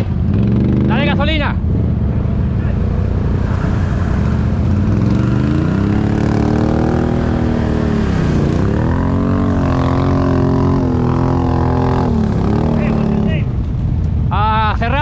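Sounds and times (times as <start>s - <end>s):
off-road vehicle engine revving: 0.0s - 13.5s.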